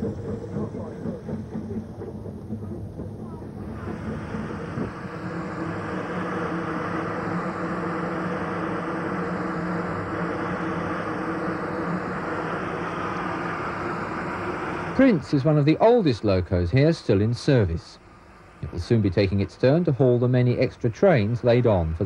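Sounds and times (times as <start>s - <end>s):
low constant hum: 0.0s - 22.0s
steam locomotive hissing: 0.0s - 22.0s.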